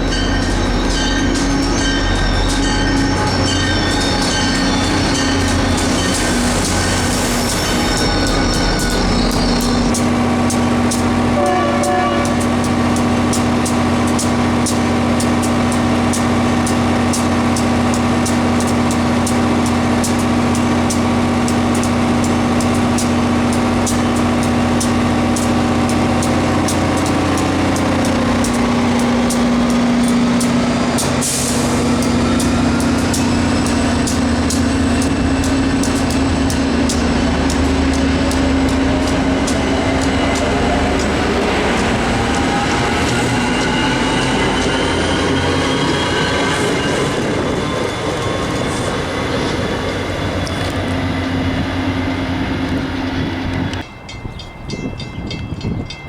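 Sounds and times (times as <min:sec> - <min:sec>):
locomotive engine drone: 0:00.0 - 0:55.0
train wheels clicking over rail joints: 0:00.0 - 0:55.9.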